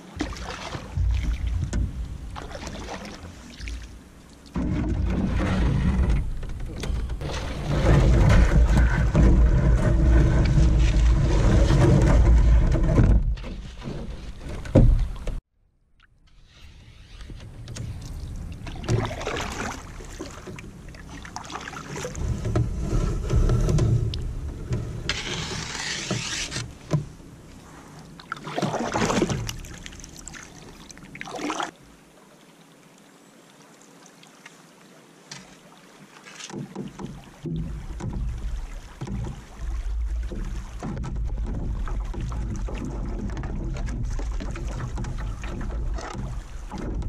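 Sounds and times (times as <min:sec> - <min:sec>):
canoe paddle splashing water: 0:00.0 - 0:33.0, 0:33.6 - 0:47.0.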